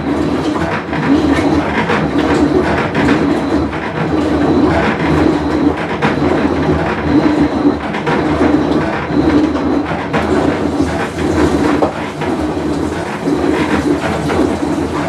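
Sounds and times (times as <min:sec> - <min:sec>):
washing machine rough mechanical noise: 0:00.0 - 0:15.0.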